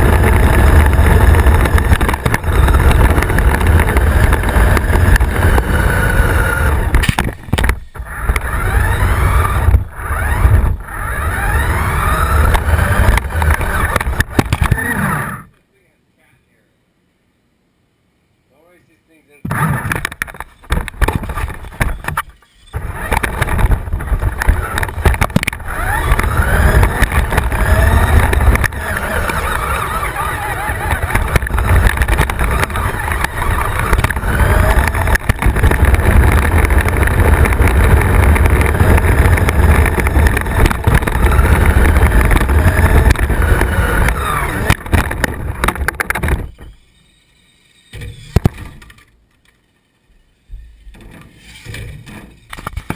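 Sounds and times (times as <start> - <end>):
radio-controlled car rumble and whine: 0.0 - 15.6, 19.4 - 52.9.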